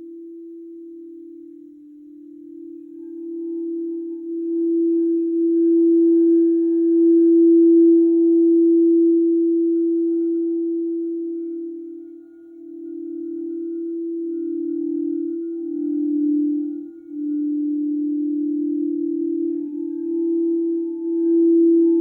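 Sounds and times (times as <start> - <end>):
singing bowl sustained tone: 0.0 - 22.0.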